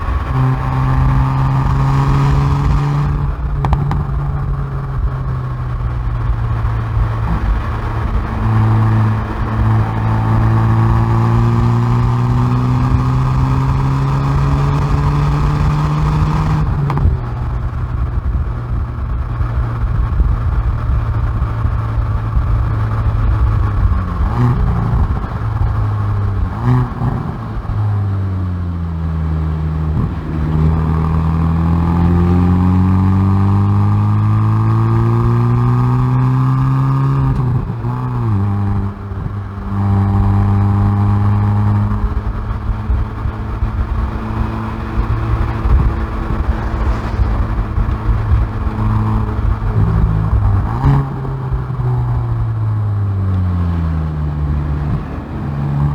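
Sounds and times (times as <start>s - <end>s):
sharp exhaust cracks: 0.0s - 28.2s, 35.2s - 55.9s
car exhaust under acceleration: 0.0s - 55.9s.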